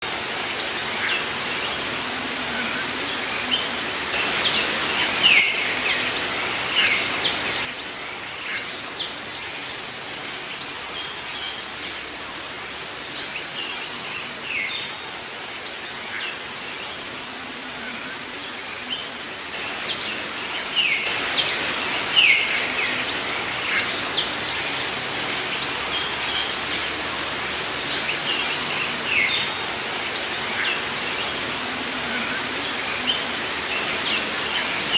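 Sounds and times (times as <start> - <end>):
rain hiss: 0.0 - 34.9
birds chirping and calling: 0.1 - 34.9.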